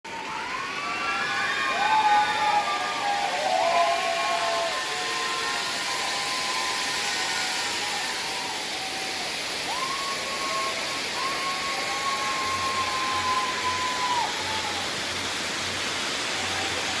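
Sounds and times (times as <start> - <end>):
pyrotechnic fountains hissing: 0.1 - 17.0.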